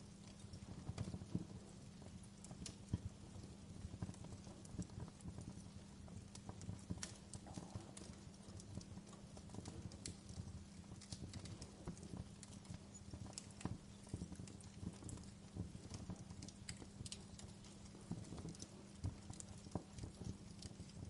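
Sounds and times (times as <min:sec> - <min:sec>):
low steady hum: 0:00.0 - 0:21.0
wood fire crackling: 0:00.0 - 0:21.0.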